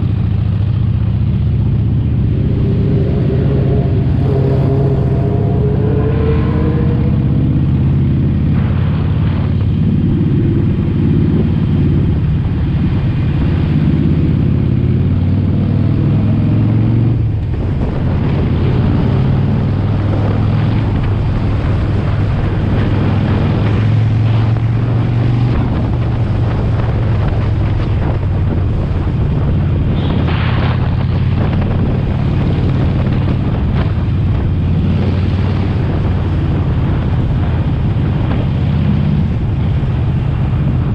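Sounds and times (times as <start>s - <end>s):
motorcycle engine running: 0.0s - 40.9s
wind rushing on microphone: 0.0s - 40.9s.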